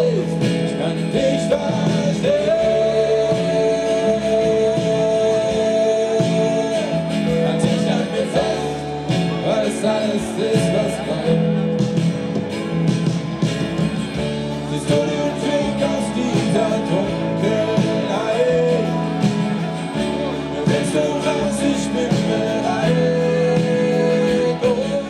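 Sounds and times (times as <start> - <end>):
person singing: 0.0 - 13.4, 14.2 - 25.0
guitar chords: 0.0 - 25.0
live pop-rock band playing: 0.0 - 25.0.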